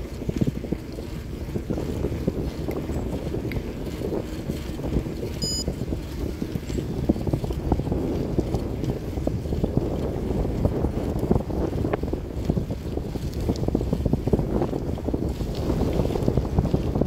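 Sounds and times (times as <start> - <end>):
bicycle rattling on asphalt: 0.0 - 5.2, 5.8 - 17.0
wind buffeting microphone: 0.0 - 17.0.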